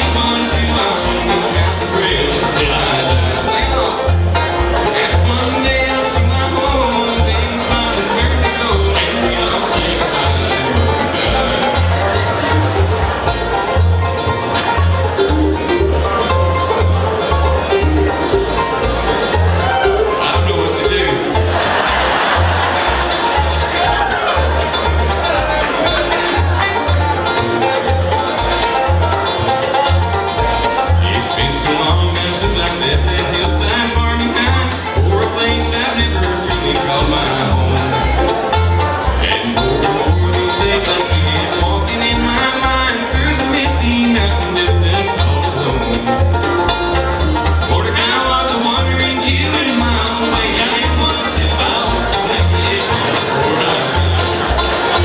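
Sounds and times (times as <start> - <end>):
banjo and guitar picking: 0.0 - 55.0
bass notes: 0.0 - 55.0
bluegrass band playing: 0.0 - 55.0.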